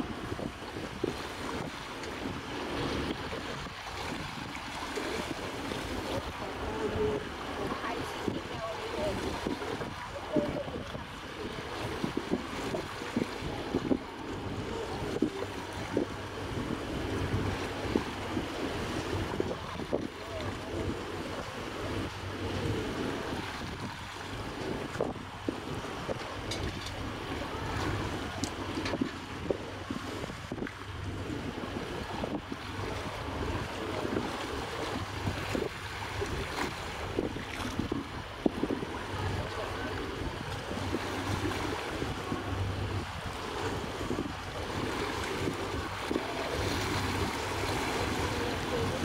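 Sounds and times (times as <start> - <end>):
waterside background noise: 0.0 - 49.0
wind buffeting microphone: 0.0 - 49.0.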